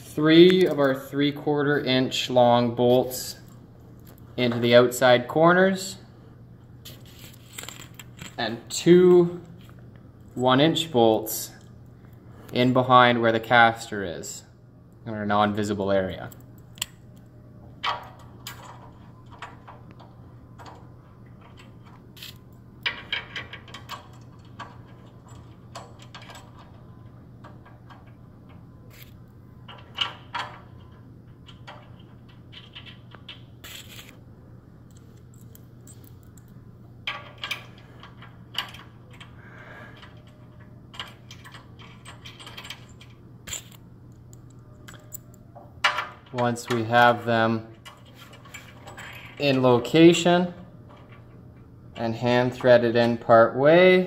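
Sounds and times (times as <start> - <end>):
low hum: 0.0 - 53.6.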